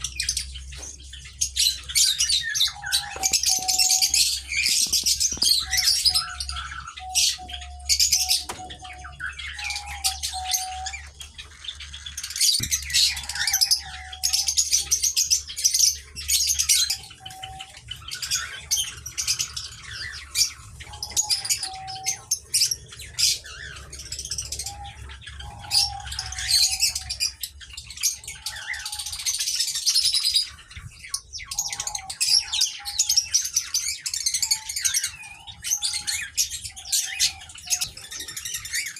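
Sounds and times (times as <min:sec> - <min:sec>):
aviary birds chirping: 0:00.0 - 0:38.9.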